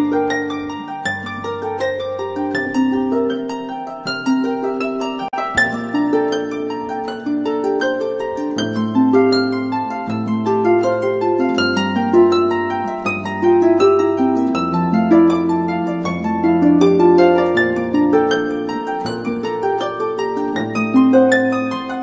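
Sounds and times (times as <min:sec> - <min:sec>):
plucked harp-like music: 0:00.0 - 0:22.0.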